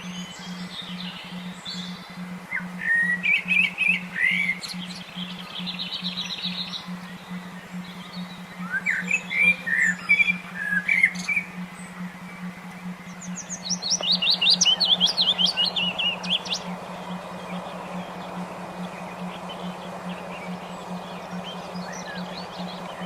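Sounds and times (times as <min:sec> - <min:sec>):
low pulsing tone: 0:00.0 - 0:23.0
songbird singing: 0:00.0 - 0:23.0.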